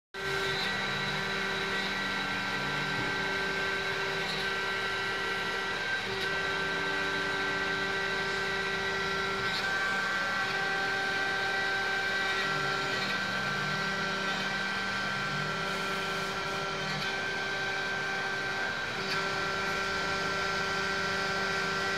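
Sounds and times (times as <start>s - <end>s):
milling machine cutting metal: 0.2s - 21.9s.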